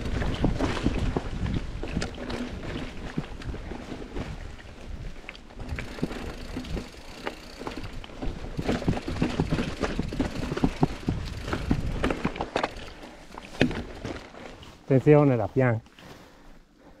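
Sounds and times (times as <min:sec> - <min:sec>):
bike clicks and rattles: 0:00.0 - 0:14.8.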